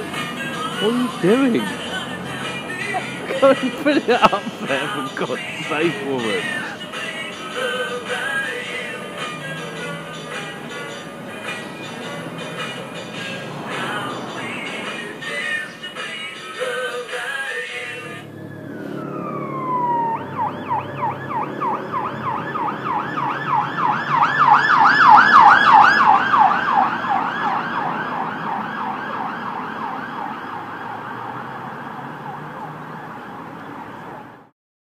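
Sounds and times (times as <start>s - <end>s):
emergency vehicle siren: 0.0s - 4.6s, 5.2s - 16.9s, 17.5s - 34.5s.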